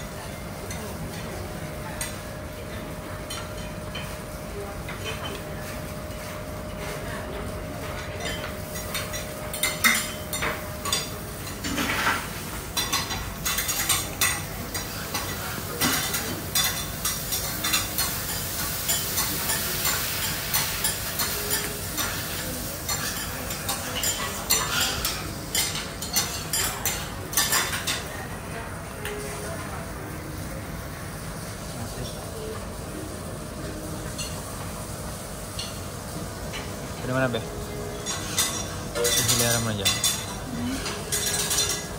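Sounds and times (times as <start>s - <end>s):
food sizzling on hot plate: 0.0s - 41.9s.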